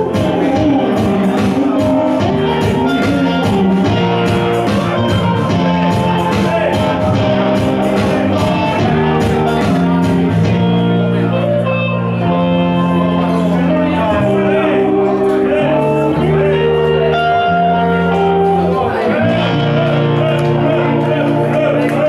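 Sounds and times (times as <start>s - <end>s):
electric bass long notes: 0.0s - 22.0s
electric guitar with bent notes: 0.0s - 22.0s.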